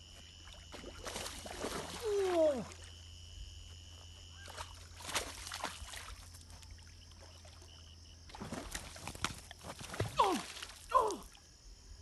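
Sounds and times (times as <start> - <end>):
water splashing and dribbling: 0.3 - 2.9, 4.4 - 11.5.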